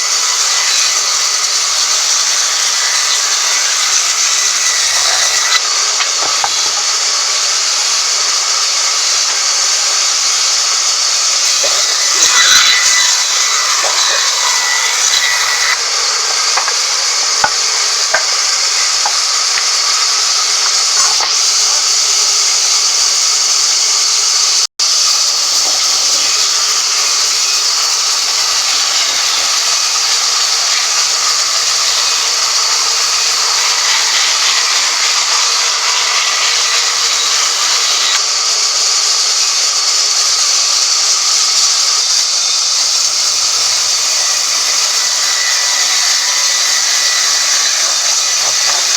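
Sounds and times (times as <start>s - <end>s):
woodworking machine hissing: 0.0s - 48.9s.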